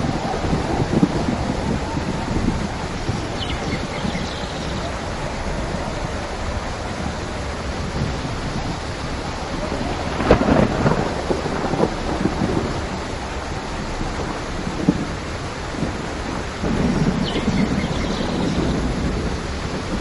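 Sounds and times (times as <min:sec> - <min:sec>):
heavy rain: 0:00.0 - 0:20.0
thunder rumble: 0:00.0 - 0:20.0.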